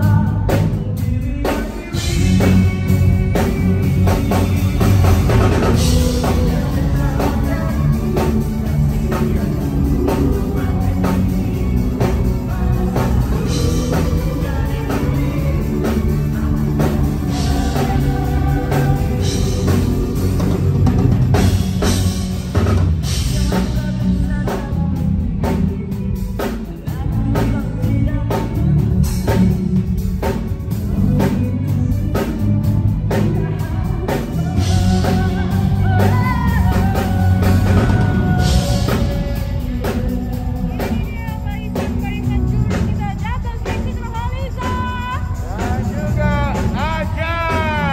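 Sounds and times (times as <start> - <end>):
woman singing: 0.0 - 22.2, 23.0 - 47.9
bass guitar: 0.0 - 47.9
drum kit: 0.0 - 47.9
guitar: 0.0 - 47.9
man singing: 0.0 - 47.9.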